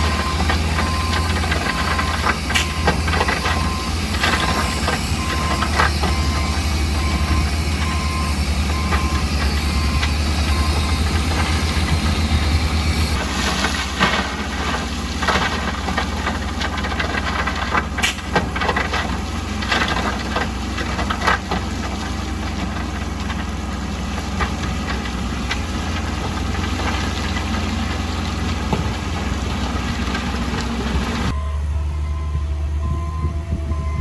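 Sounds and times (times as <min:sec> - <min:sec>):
metal clanks and knocks: 0:00.0 - 0:31.3
diesel engine running: 0:00.0 - 0:34.0.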